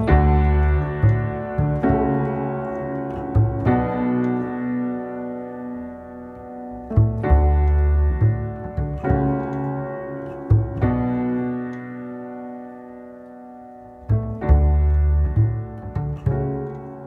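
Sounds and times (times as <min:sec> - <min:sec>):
deep low piano bass notes: 0:00.0 - 0:17.0
piano chords: 0:00.0 - 0:17.0.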